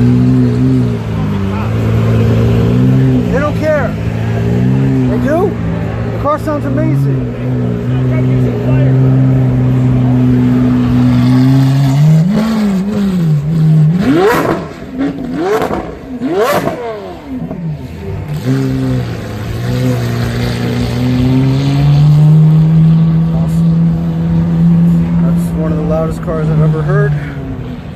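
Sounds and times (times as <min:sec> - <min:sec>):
car engine revving: 0:00.0 - 0:27.9
exhaust crack: 0:00.0 - 0:27.9.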